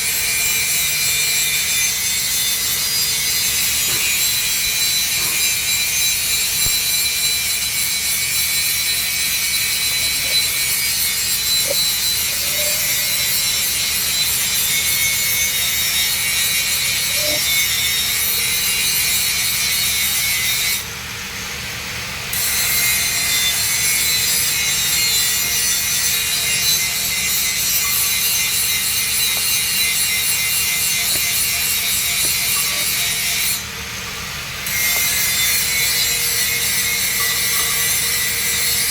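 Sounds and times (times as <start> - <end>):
arc welding crackle and hiss: 0.0 - 38.9.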